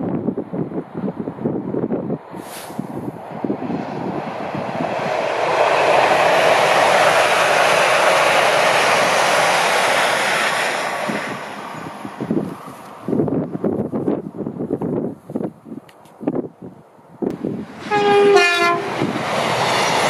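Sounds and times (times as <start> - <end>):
electric train passing: 0.0 - 15.4, 16.3 - 20.0.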